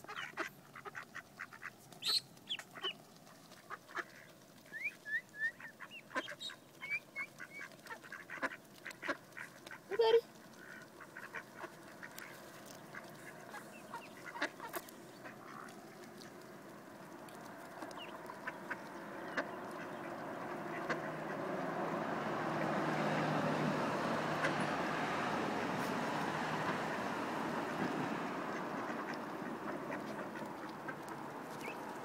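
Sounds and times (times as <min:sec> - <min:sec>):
duck calls: 0:00.0 - 0:16.4, 0:17.1 - 0:23.3, 0:24.0 - 0:32.0
duck bills pecking on pavement: 0:00.0 - 0:32.0.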